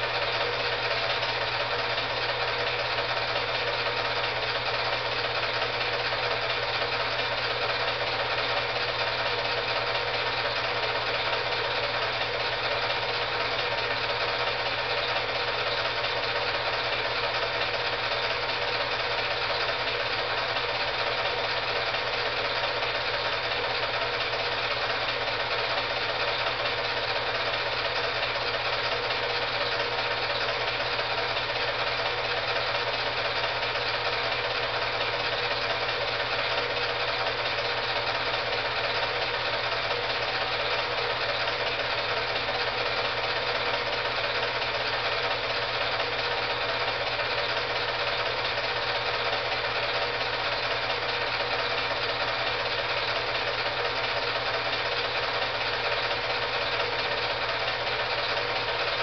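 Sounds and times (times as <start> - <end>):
film projector whirring: 0.0 - 59.0.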